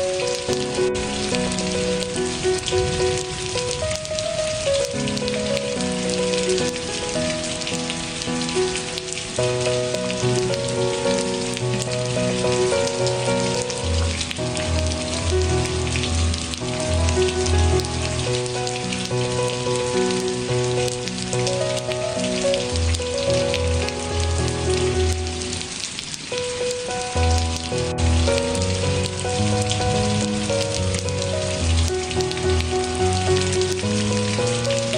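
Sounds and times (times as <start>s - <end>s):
gentle instrumental music: 0.0s - 34.9s
rain hiss: 0.0s - 34.9s.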